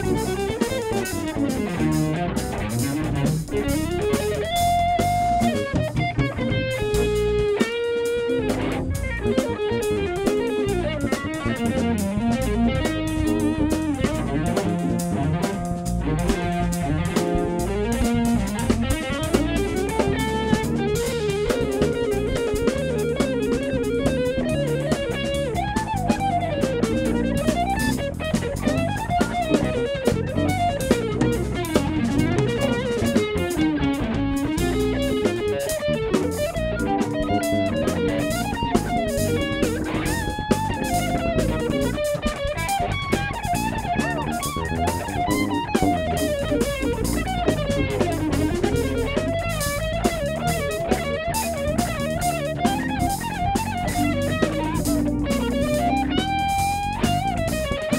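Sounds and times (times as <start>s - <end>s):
drum kit: 0.0s - 57.9s
electric guitar lead with bent notes: 0.0s - 57.9s.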